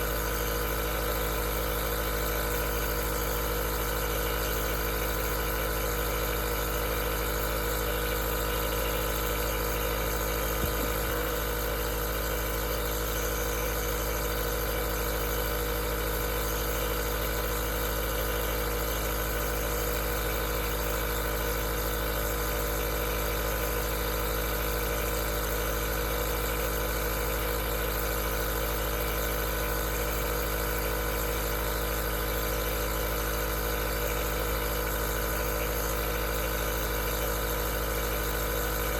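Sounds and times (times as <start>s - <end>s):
nebulizer motor hum: 0.0s - 38.9s.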